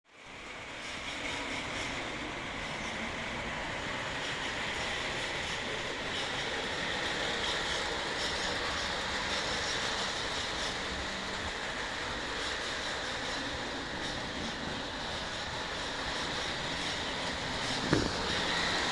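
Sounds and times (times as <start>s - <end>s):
model train running on track: 0.1s - 18.9s
faint clicking wheels: 0.4s - 18.9s.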